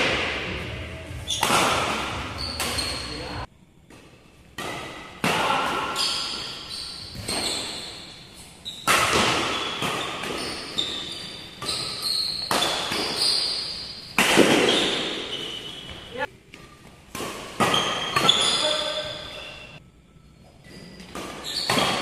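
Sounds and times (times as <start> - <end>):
shoes squeaking on court: 1.2 - 3.5, 5.5 - 19.8, 20.4 - 22.0
rackets hitting shuttlecock: 1.3 - 3.2, 3.9 - 19.7, 20.7 - 22.0.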